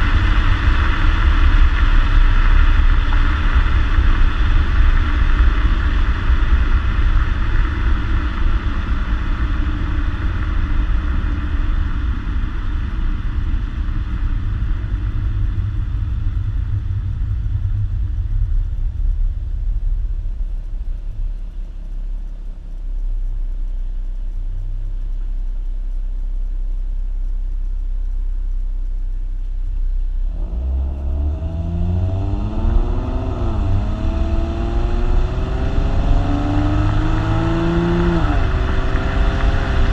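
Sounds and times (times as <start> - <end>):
car engine and exhaust drone: 0.0 - 39.9.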